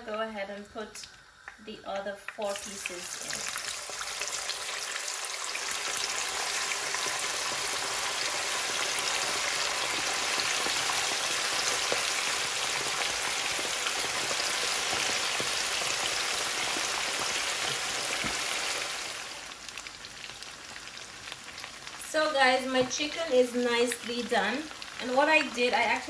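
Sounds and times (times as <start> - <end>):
chicken deep-frying sizzle: 0.3 - 26.0.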